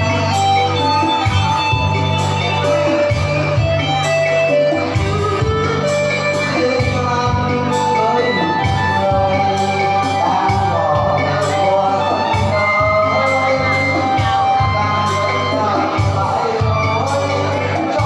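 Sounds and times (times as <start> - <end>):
music with beat and bass: 0.0 - 18.0
person singing: 0.0 - 18.0.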